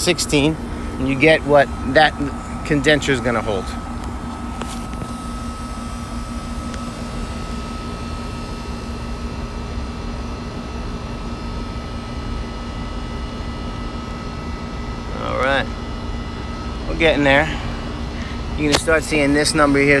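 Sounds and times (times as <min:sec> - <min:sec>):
air conditioner unit humming: 0:00.0 - 0:20.0.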